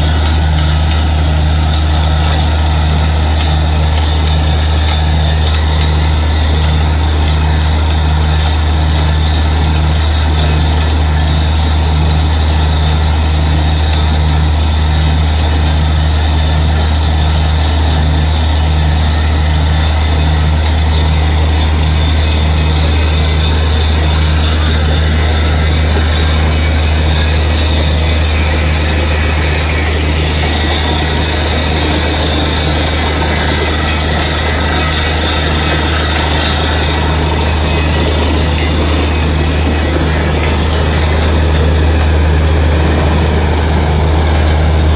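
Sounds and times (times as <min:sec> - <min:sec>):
drilling rig engine drone: 0:00.0 - 0:44.9.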